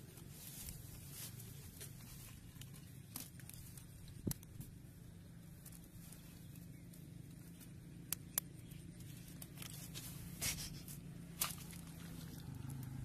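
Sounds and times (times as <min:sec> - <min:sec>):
hands handling straw and clay: 0:00.0 - 0:13.0
steady low hum: 0:00.0 - 0:13.0.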